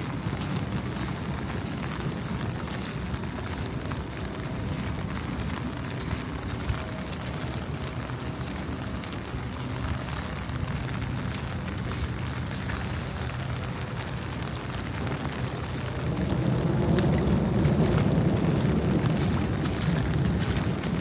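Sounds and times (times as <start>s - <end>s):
heavy rain falling: 0.0s - 21.0s
low rumble: 0.0s - 21.0s.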